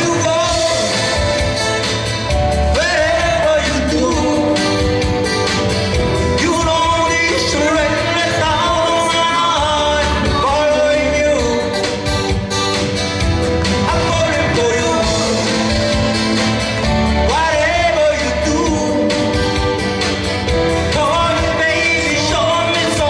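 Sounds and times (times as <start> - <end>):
acoustic guitar: 0.0 - 23.0
drums: 0.0 - 23.0
electric guitar: 0.0 - 23.0.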